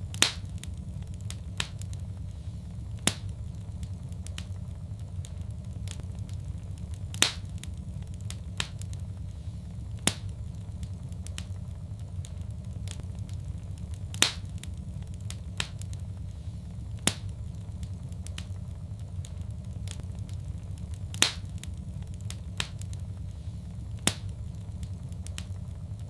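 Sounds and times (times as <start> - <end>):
fire crackling pops: 0.0 - 26.0
low sound of flames: 0.0 - 26.0.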